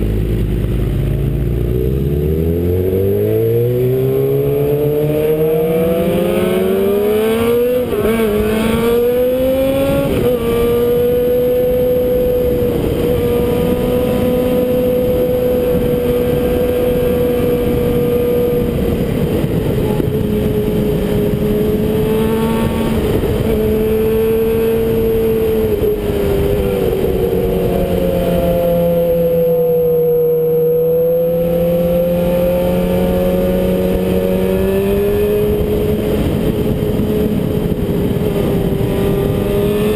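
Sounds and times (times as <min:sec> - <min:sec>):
motorcycle engine accelerating: 0:00.0 - 0:39.9
wind rush on microphone: 0:02.8 - 0:39.9.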